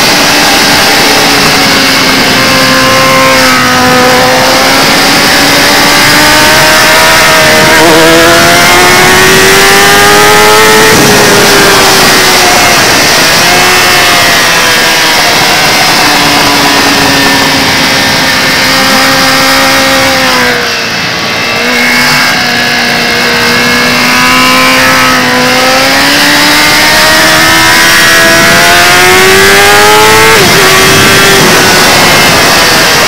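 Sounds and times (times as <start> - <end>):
motorcycle engine revving: 0.0 - 33.0
wind rush: 0.0 - 33.0.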